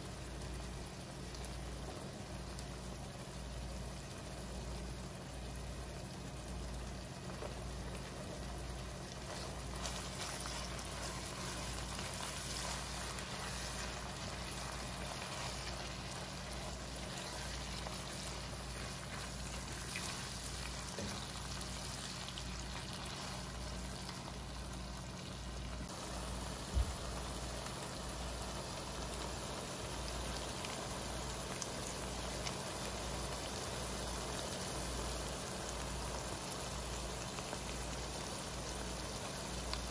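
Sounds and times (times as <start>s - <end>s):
low steady hum: 0.0s - 39.9s
meat sizzling in a frying pan: 0.0s - 39.9s.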